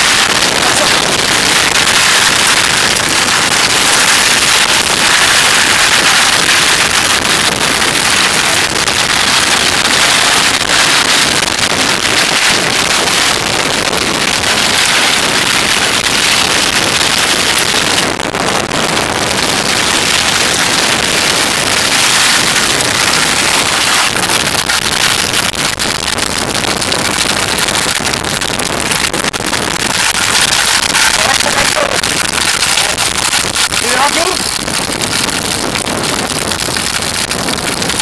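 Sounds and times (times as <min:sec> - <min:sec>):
wind rushing on microphone: 0:00.0 - 0:38.0.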